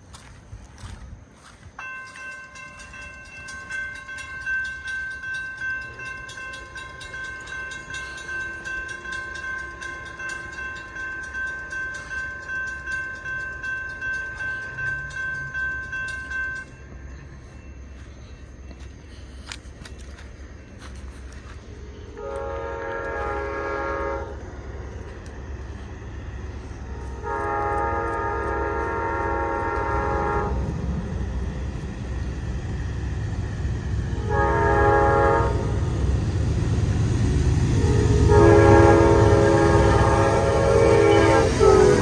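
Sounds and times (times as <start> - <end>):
railroad crossing bell ringing: 0.0 - 42.0.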